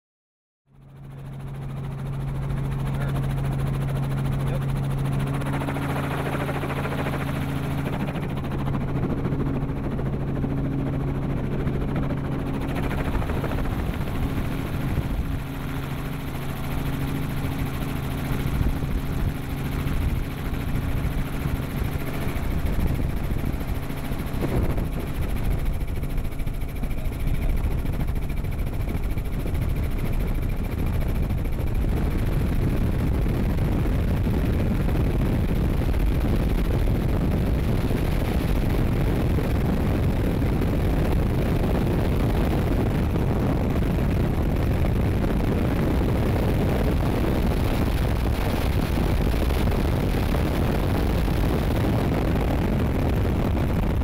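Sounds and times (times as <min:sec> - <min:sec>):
helicopter engine and rotor: 0:00.7 - 0:54.0.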